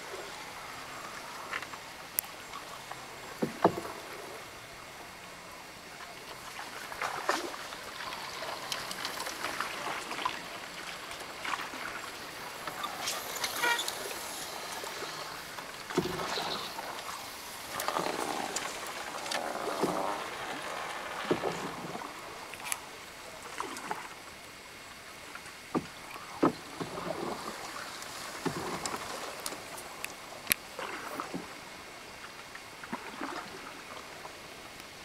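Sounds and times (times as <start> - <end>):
water splashing along boat hull: 0.0 - 4.6, 5.9 - 35.0.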